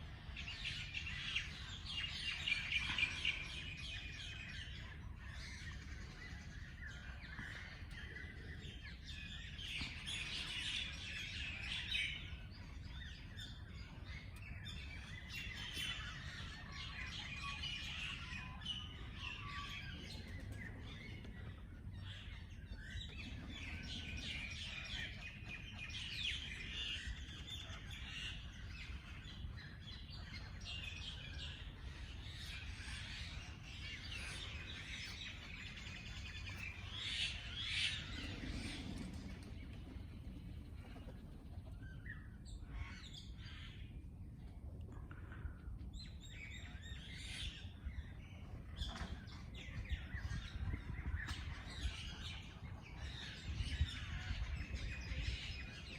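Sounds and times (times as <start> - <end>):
birds chirping and singing: 0.0 - 44.1, 45.3 - 55.9.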